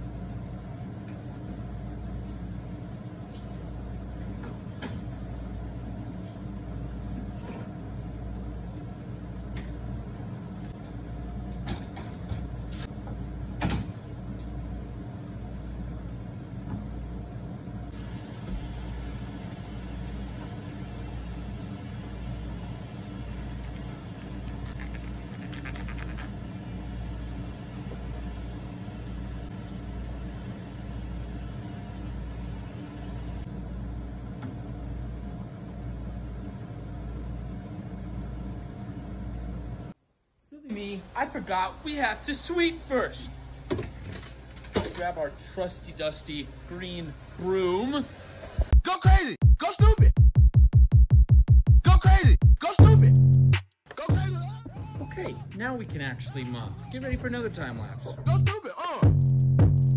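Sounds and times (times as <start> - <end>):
low mechanical hum: 0.0 - 49.2.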